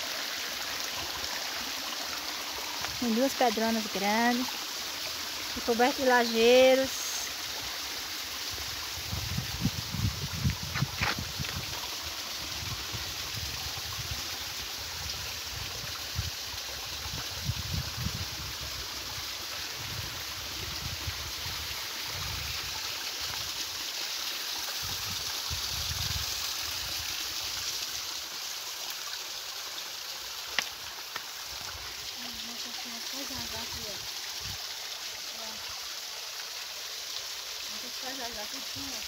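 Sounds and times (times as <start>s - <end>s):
creek water trickling over stones: 0.0s - 39.0s.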